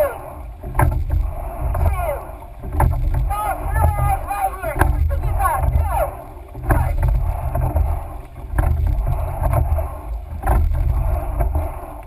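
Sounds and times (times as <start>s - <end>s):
oars knocking: 0.0s - 12.0s
wind rumble on microphone: 0.0s - 12.0s.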